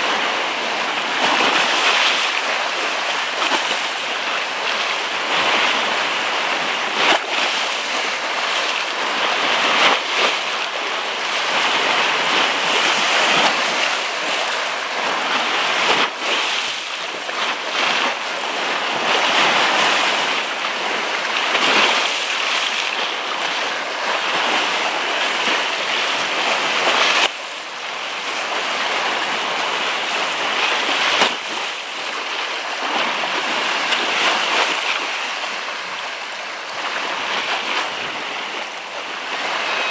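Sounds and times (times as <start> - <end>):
waves and surf rushing: 0.0 - 39.9.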